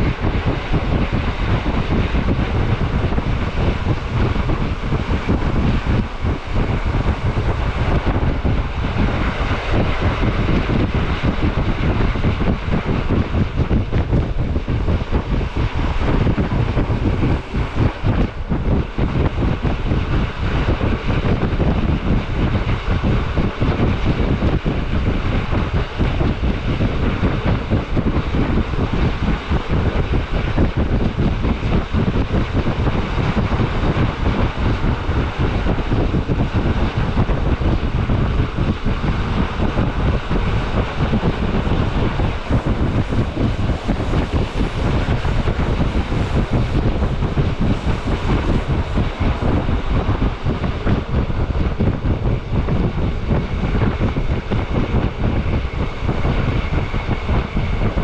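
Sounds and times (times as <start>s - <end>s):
train rushing rumble: 0.0s - 58.0s
wind buffeting microphone: 0.0s - 58.0s.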